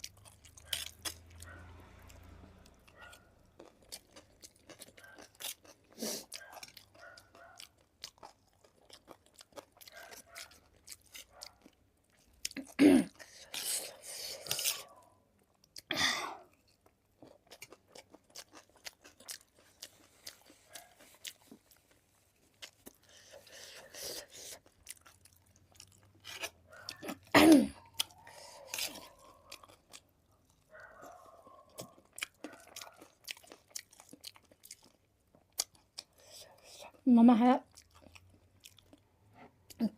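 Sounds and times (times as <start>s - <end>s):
person chewing food: 0.0s - 37.0s, 37.7s - 39.9s.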